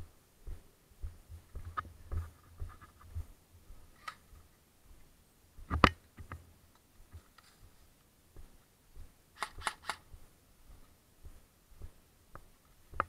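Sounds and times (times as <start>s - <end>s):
footsteps on concrete: 0.0s - 5.0s, 7.0s - 13.0s.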